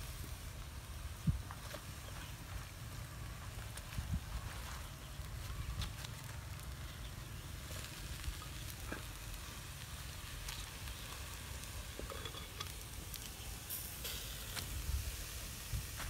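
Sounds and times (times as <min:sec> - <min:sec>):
paper and salt crackling: 0:01.4 - 0:16.0.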